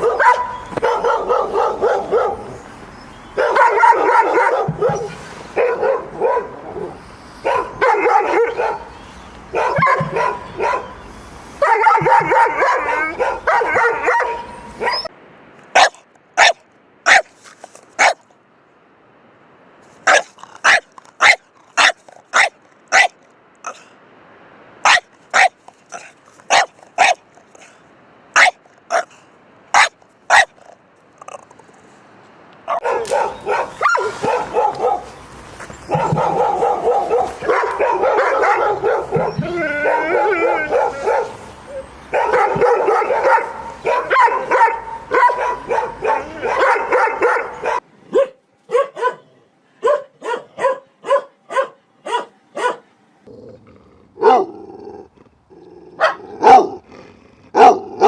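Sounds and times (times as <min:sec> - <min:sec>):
dogs barking: 0:00.0 - 0:02.7, 0:03.3 - 0:11.0, 0:11.6 - 0:15.1, 0:15.8 - 0:17.3, 0:18.0 - 0:18.2, 0:20.0 - 0:23.9, 0:24.8 - 0:27.8, 0:28.4 - 0:31.4, 0:32.6 - 0:52.9, 0:54.2 - 0:55.1, 0:55.9 - 0:56.9, 0:57.5 - 0:58.0.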